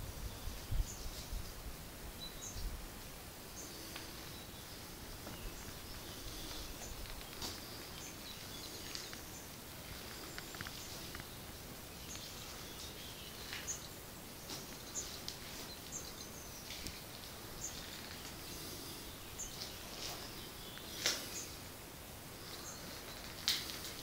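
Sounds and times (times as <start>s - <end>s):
faint songbird chirps: 0.0s - 24.0s
outdoor ambient hiss: 0.0s - 24.0s.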